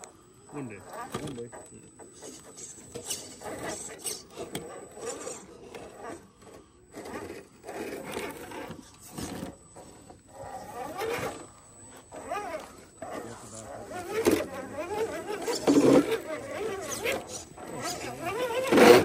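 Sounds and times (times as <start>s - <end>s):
toy truck scraping over rock: 0.7s - 19.0s.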